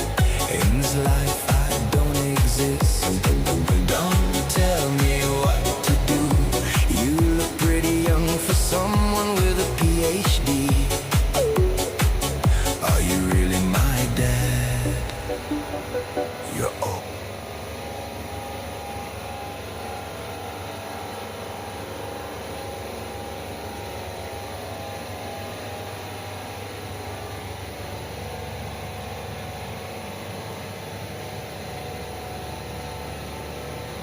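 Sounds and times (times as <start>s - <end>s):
chiller unit humming: 0.0s - 34.0s.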